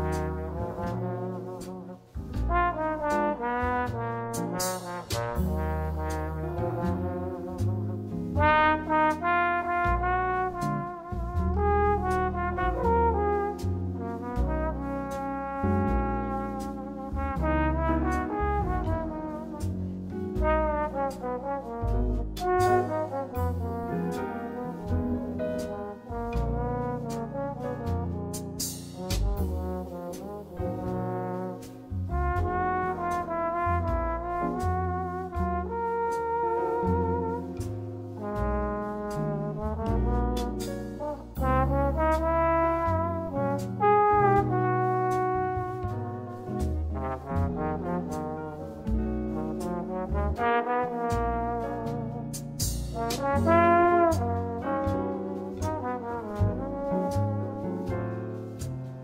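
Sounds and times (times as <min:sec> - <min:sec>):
bass line: 0:00.0 - 0:59.0
jazz music: 0:00.0 - 0:59.0
trombone slow melody: 0:00.0 - 0:59.0.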